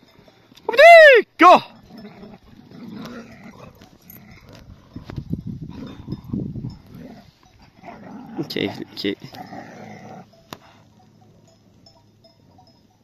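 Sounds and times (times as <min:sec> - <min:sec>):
dogs growling: 0:01.8 - 0:12.8.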